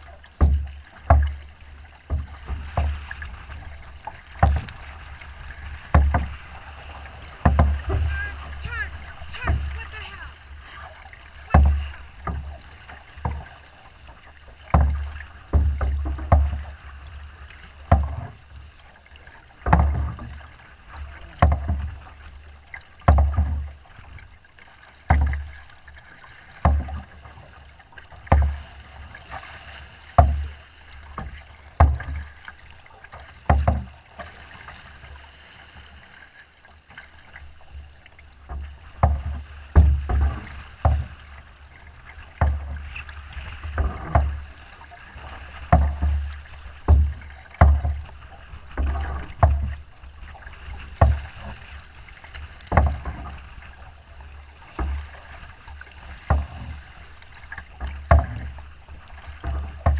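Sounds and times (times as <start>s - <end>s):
water slapping boat hull: 0.0s - 59.9s
wind and water hiss: 0.0s - 59.9s.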